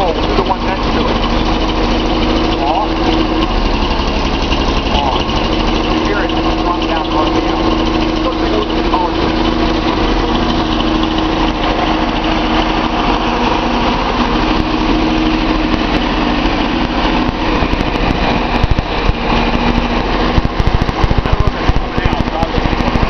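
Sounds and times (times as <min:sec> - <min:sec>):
car engine drone: 0:00.0 - 0:23.0
engine misfire pops: 0:00.0 - 0:23.0.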